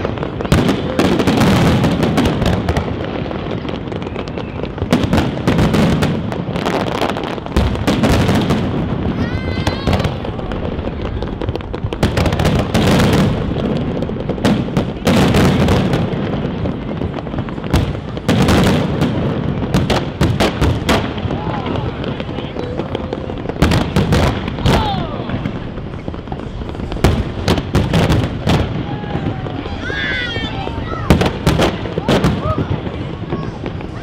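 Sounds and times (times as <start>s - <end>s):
firework bursts and crackling: 0.0s - 34.0s
loud firework bangs: 0.0s - 34.0s
rising firework whistles: 0.0s - 34.0s.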